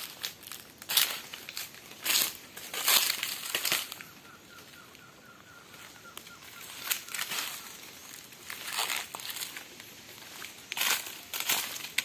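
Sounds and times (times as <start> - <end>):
footsteps crunching on dry leaves: 0.0 - 12.0.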